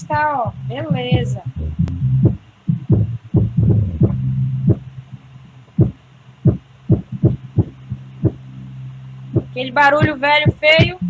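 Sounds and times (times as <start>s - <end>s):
bass-heavy music: 0.0s - 11.0s.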